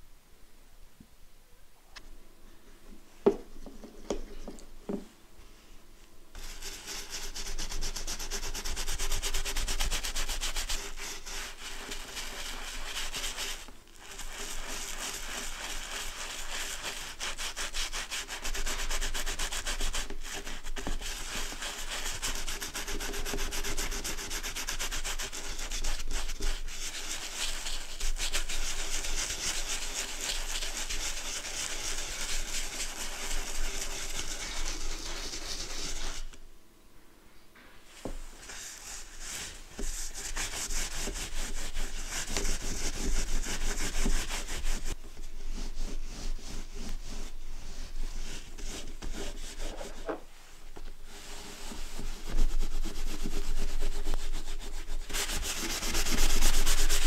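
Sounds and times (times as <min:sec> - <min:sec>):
brush scrubbing leather: 0:06.4 - 0:36.3, 0:38.0 - 0:50.2, 0:50.8 - 0:57.0.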